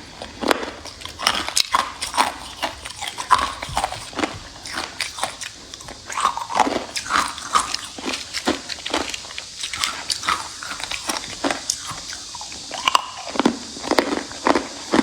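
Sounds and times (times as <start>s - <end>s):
ice being crunched and chewed: 0.0s - 15.0s.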